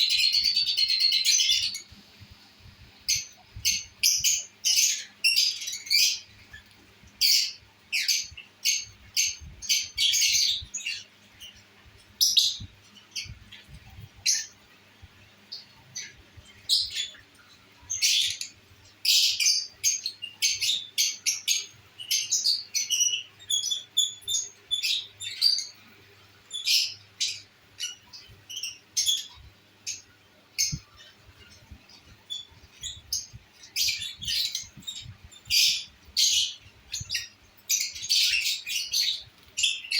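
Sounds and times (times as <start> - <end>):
lovebirds chirping and squawking: 0.0 - 39.9.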